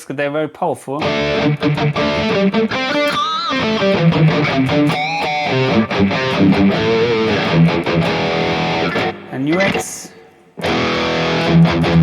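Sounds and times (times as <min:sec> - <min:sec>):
distorted electric guitar: 0:01.0 - 0:12.0.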